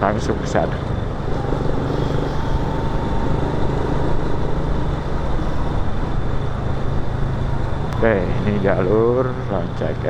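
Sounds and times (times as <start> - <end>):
motorcycle engine rumble: 0.0 - 10.0
road noise: 0.0 - 10.0.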